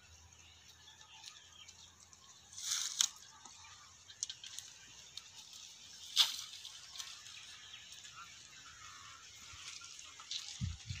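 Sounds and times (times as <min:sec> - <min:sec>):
dry twigs rustling and crackling: 0:00.0 - 0:11.0.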